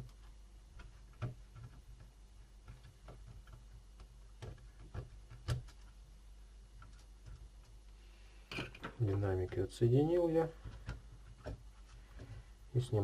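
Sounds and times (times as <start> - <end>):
faint clicks and taps: 0.0 - 8.0, 8.6 - 13.0.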